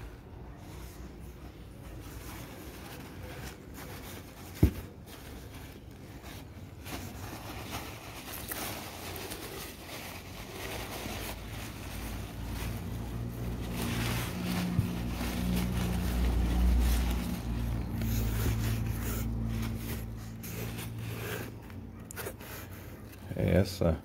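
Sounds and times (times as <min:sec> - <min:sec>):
packing paper rustling and crackling: 0:00.0 - 0:24.0.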